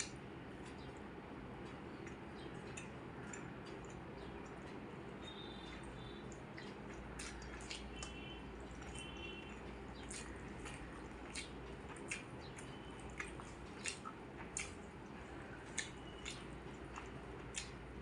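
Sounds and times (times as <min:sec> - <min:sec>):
chewing with wet smacks and clicks: 0:00.0 - 0:18.0
low steady hum: 0:00.0 - 0:18.0.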